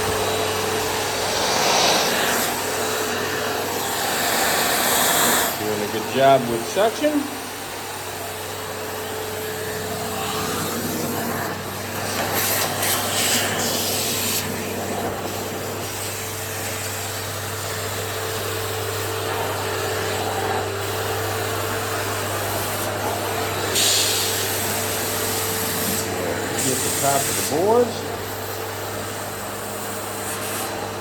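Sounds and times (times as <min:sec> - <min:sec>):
vacuum cleaner motor hum: 0:00.0 - 0:31.0
vacuum sucking rushing air: 0:00.0 - 0:31.0.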